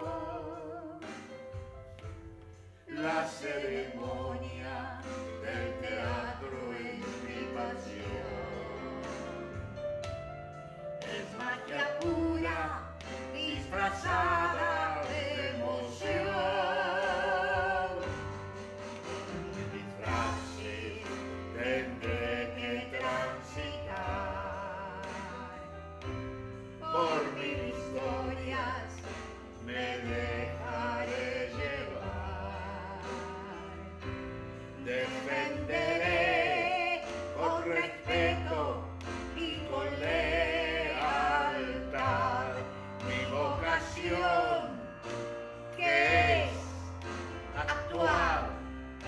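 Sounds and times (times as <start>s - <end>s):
man and woman singing: 0.0s - 1.3s, 2.9s - 9.5s, 11.0s - 18.4s, 19.4s - 25.6s, 26.8s - 34.2s, 34.8s - 48.7s.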